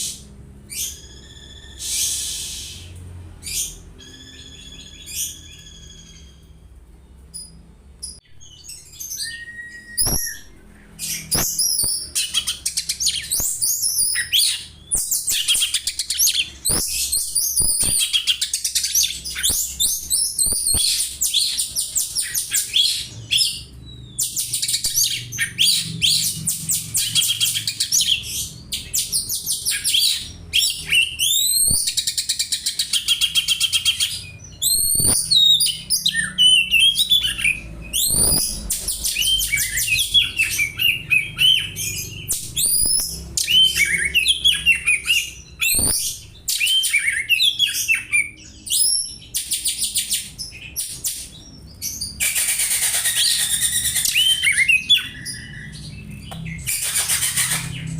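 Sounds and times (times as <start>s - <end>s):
songbird chirping and trilling: 0.0s - 57.9s.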